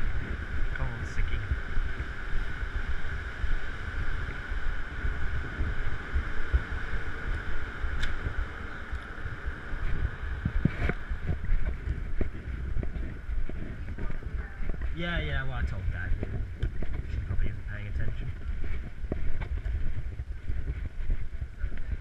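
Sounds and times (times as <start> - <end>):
microphone handling noise: 0.0 - 22.0
steady hum: 0.0 - 22.0
wind buffeting microphone: 0.0 - 22.0.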